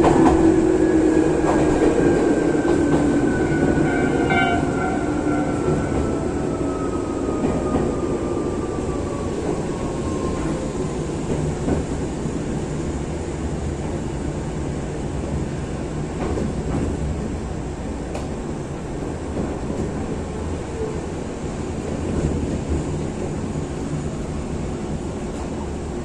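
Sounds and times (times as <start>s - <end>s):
train wheel and rail rumble: 0.0s - 26.0s.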